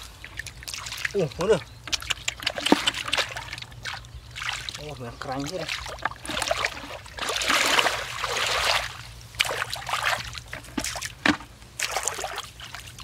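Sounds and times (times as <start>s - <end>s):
feet splashing in shallow water: 0.0s - 11.2s, 11.8s - 13.0s.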